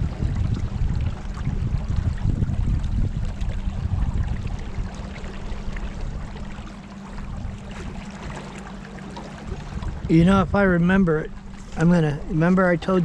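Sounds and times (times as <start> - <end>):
low uneven rumble: 0.0 - 13.0
river water rushing around kayak: 0.0 - 13.0.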